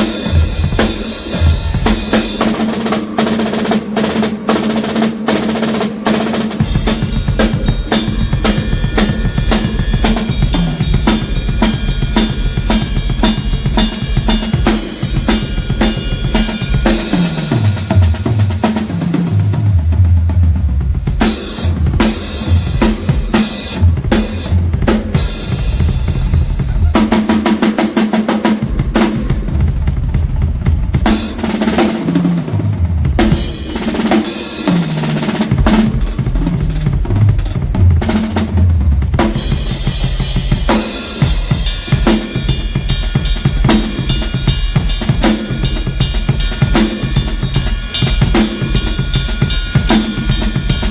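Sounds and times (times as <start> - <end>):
drum kit playing: 0.0 - 50.9.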